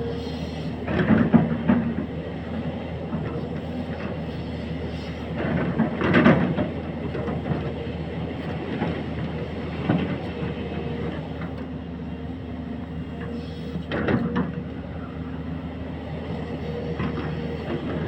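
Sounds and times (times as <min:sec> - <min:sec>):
excavator running: 0:00.0 - 0:18.0.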